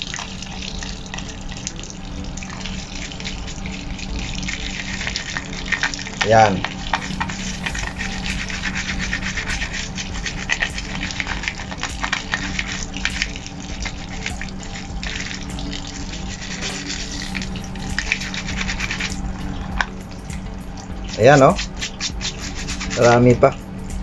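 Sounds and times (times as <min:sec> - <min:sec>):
tap water running and splashing: 0:00.0 - 0:24.0
toothbrush scrubbing plastic mesh: 0:02.5 - 0:23.6.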